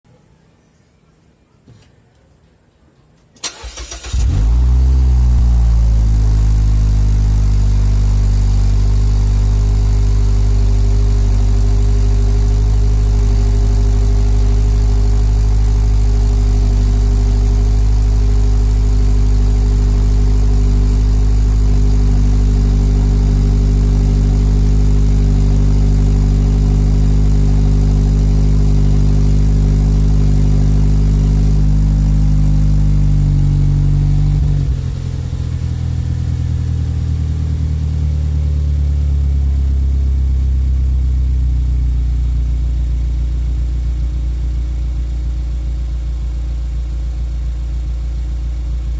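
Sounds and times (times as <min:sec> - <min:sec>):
car engine idling loudly: 0:04.1 - 0:48.9.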